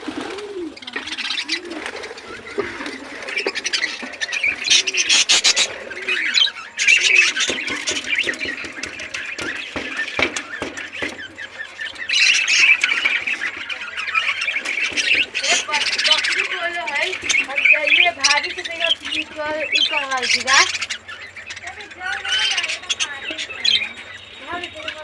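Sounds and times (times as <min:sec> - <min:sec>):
budgies chattering and squawking: 0:00.0 - 0:25.0.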